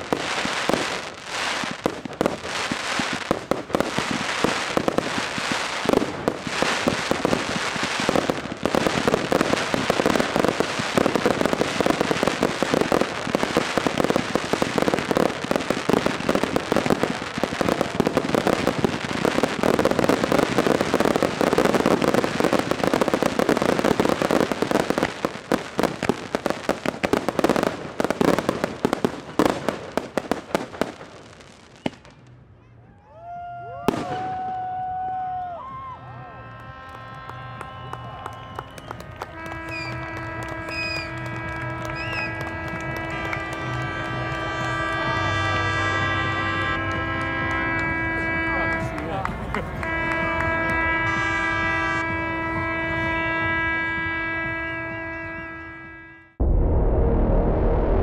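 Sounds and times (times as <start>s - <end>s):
fireworks bursting with crackle: 0.0s - 32.4s, 33.9s - 35.4s, 36.6s - 58.0s.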